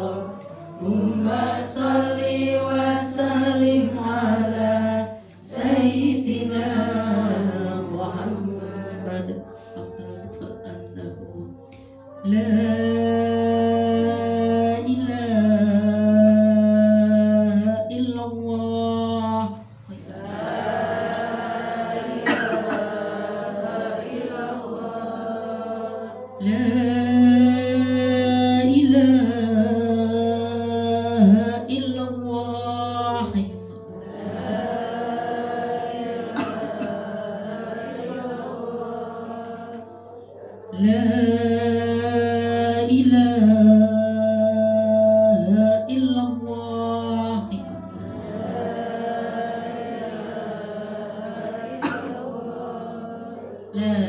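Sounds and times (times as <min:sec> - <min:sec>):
woman chanting over loudspeaker: 0:00.0 - 0:54.0.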